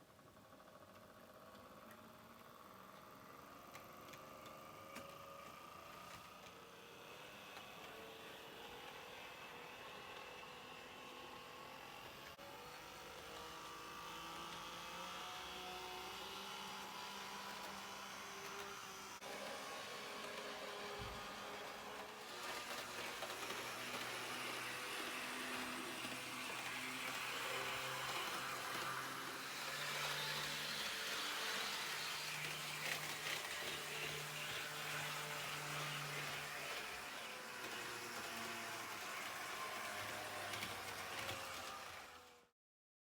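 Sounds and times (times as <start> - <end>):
model train running noise: 0.2 - 42.5.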